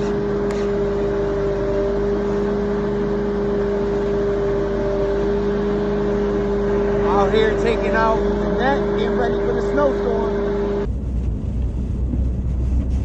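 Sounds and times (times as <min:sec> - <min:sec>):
motor humming steadily: 0:00.0 - 0:13.0.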